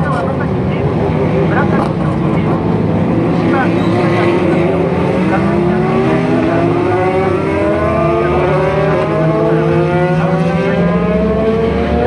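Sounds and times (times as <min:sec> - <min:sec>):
race car engines accelerating: 0:00.0 - 0:12.0.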